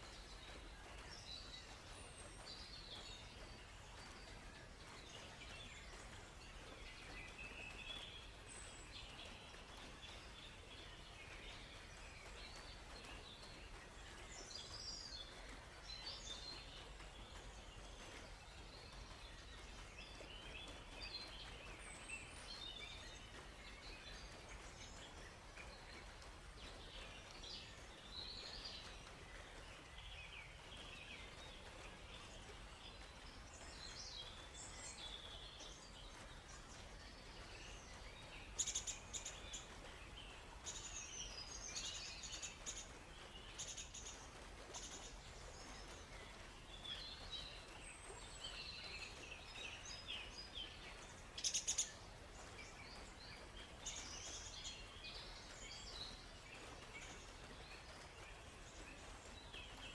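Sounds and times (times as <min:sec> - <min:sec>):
soft steady background hiss: 0:00.0 - 0:59.9.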